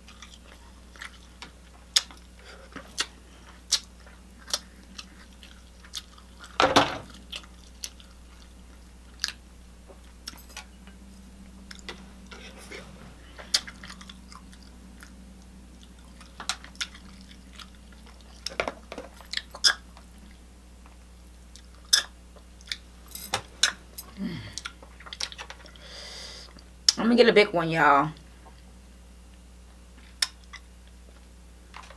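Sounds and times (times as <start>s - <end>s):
chewing: 0.0s - 22.9s, 23.6s - 25.8s, 30.0s - 31.2s.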